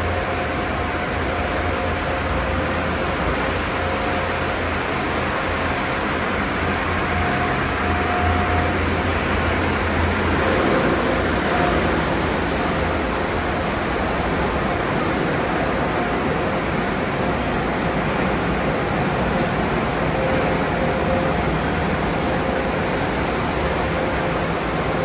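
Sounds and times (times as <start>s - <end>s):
car wash equipment rushing: 0.0s - 25.0s.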